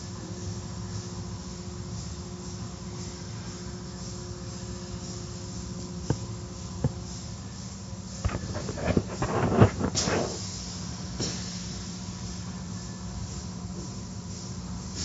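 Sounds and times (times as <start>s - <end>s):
car wash machinery humming: 0.0s - 15.0s.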